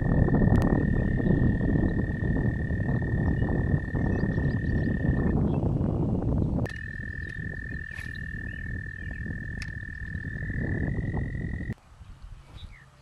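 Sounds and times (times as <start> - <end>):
frog trilling: 0.0 - 5.4, 6.7 - 11.8
wind on microphone: 0.0 - 13.0.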